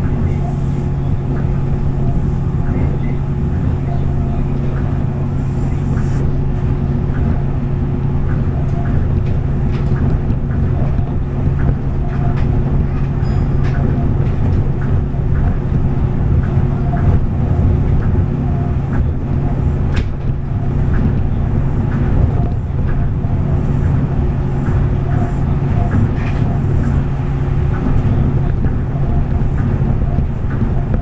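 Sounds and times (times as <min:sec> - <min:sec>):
monorail train rumbling: 0:00.0 - 0:31.0.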